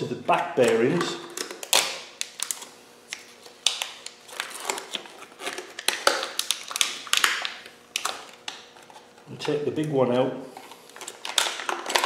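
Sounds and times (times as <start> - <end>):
paper wrapping crinkling: 0.6 - 9.6, 10.6 - 12.0.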